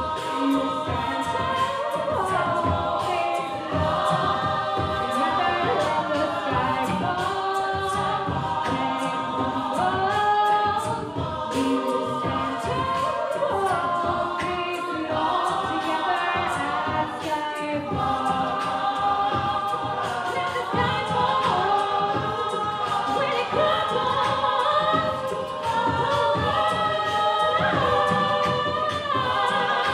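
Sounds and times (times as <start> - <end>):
steady beat: 0.0 - 29.9
vocal group singing in harmony: 0.0 - 29.9.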